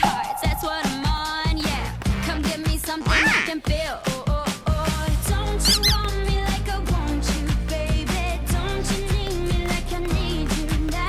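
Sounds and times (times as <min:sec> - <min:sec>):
pop music with drum beat: 0:00.0 - 0:11.0.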